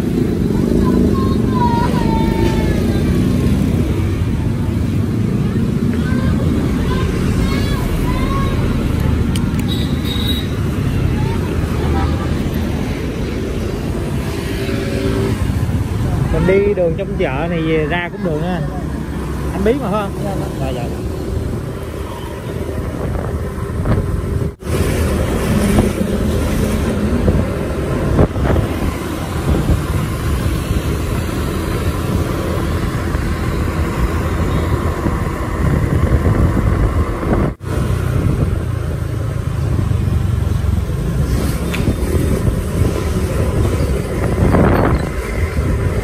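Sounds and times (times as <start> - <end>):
street traffic: 0.0 - 46.0
wind: 0.0 - 46.0.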